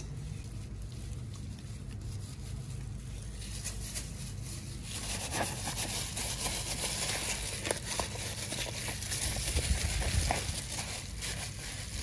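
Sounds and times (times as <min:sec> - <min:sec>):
low steady hum: 0:00.0 - 0:12.0
wet rustling of plastic glove: 0:00.0 - 0:12.0.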